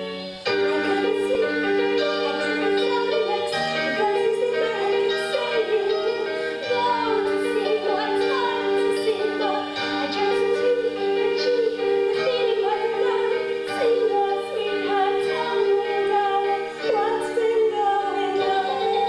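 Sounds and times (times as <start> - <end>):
instrumental accompaniment: 0.0 - 19.0
woman singing a slow show tune: 0.0 - 19.0.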